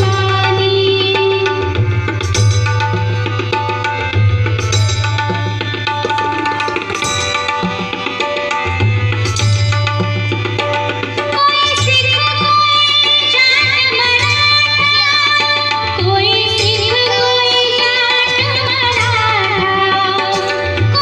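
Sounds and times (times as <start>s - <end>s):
tabla percussion rhythm: 0.0s - 21.0s.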